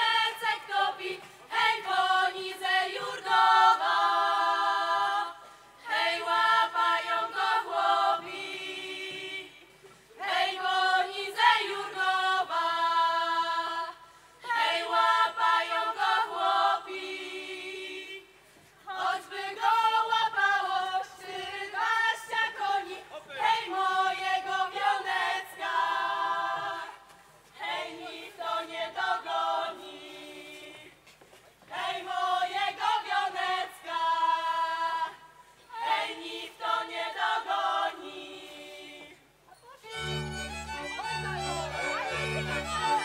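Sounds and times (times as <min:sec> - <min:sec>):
women singing folk song unaccompanied: 0:00.0 - 0:43.0.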